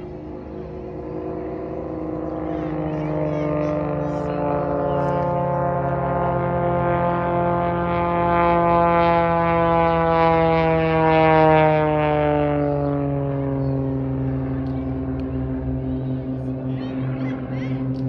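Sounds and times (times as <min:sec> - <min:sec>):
aircraft engine droning past: 0:00.0 - 0:18.0.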